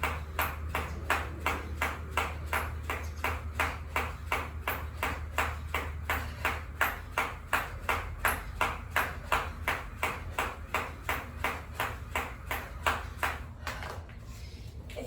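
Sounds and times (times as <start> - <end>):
jump rope striking floor: 0.0 - 14.0
low steady hum: 0.0 - 15.0.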